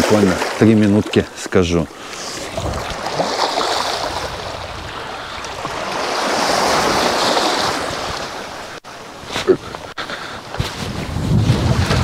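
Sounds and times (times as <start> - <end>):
waves washing among rocks: 0.0 - 1.2, 2.0 - 9.2, 10.4 - 12.0.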